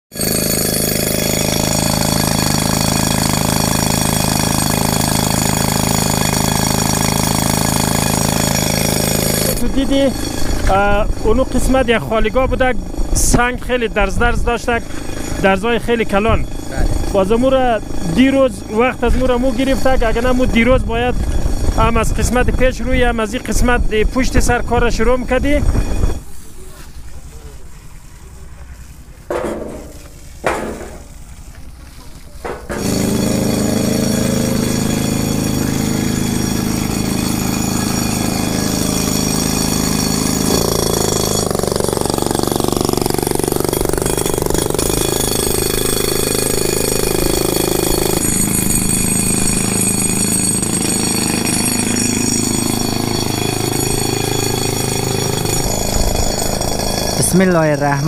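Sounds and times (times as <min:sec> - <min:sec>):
hammer drill hammering: 0:00.1 - 0:26.2, 0:29.3 - 0:31.2, 0:32.4 - 0:58.0.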